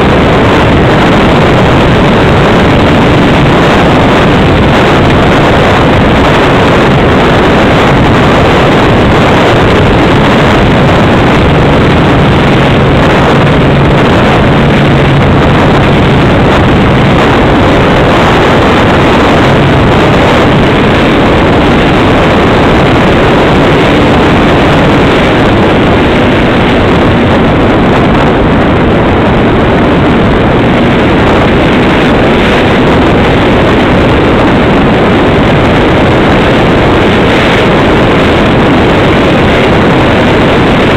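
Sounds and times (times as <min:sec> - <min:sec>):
model airplane propeller buzzing: 0:00.0 - 0:40.9.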